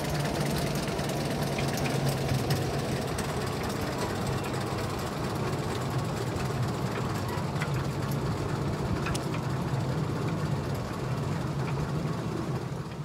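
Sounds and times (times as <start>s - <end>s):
train rumbling past: 0.0s - 13.0s
light clicks from wheels: 0.2s - 13.0s.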